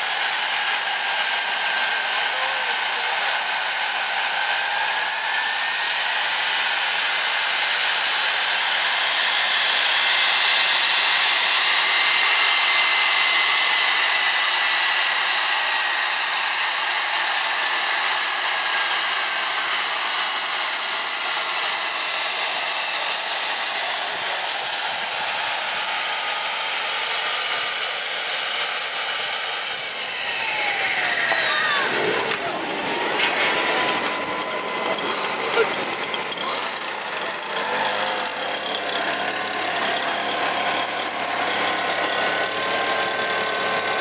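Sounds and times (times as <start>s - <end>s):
jet engine whine: 0.0s - 36.8s.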